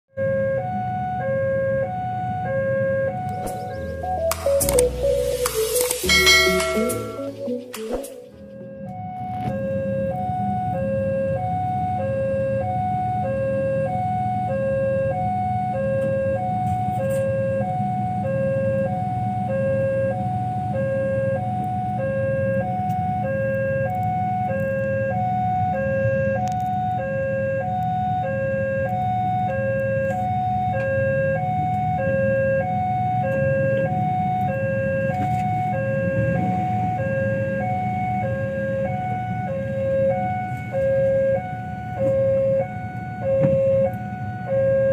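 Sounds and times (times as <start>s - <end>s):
level crossing two-tone alarm: 0.2s - 44.9s.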